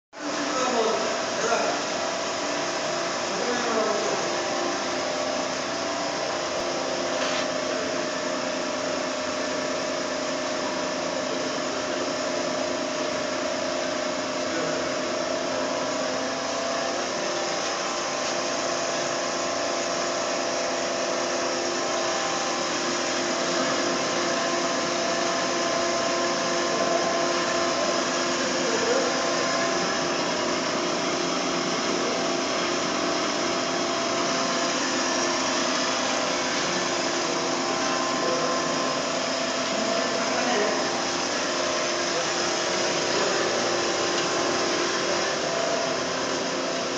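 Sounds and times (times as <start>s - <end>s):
band saw humming and whirring: 0.3s - 46.9s.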